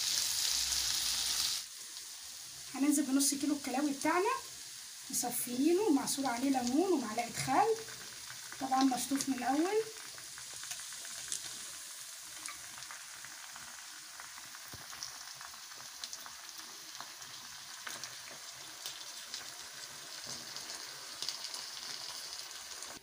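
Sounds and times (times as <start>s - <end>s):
kidneys sizzling in frying pan: 0.0s - 23.0s.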